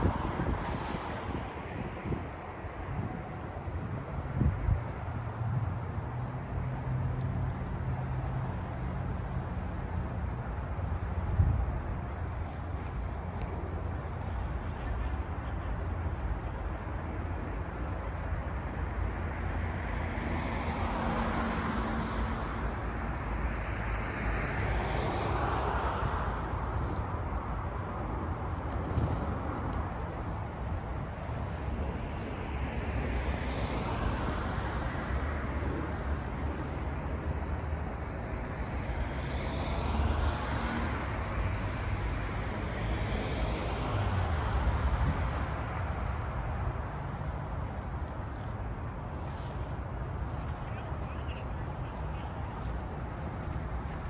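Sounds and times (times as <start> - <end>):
wind rustling through grass: 0.0 - 54.0.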